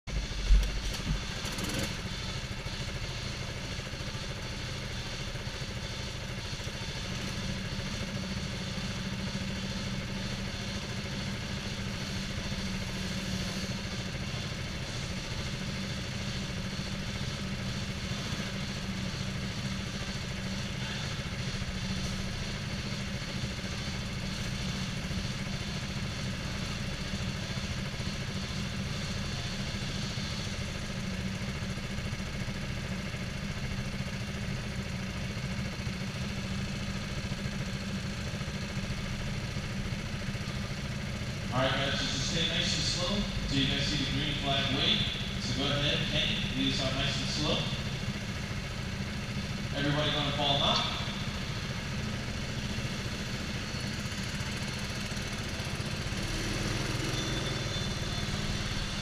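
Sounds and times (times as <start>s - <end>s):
go-kart engines idling: 0.1s - 59.0s.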